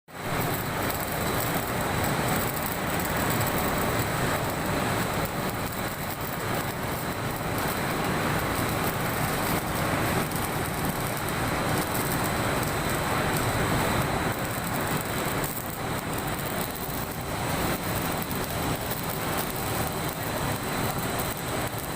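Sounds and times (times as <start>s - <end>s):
welding arc crackling: 0.1s - 21.9s.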